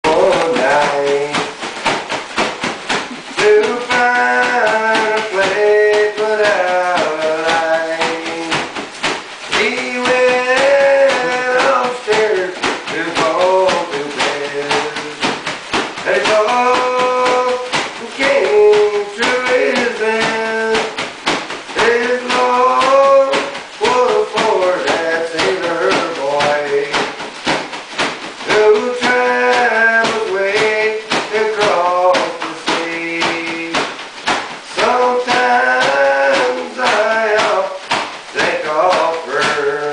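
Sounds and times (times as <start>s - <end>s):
quick steady beat: 0.0s - 39.9s
rhythmic taps: 0.0s - 39.9s.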